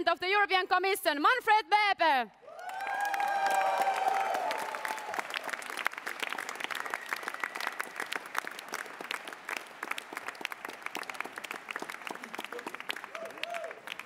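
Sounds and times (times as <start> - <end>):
audience applauding: 2.5 - 14.0.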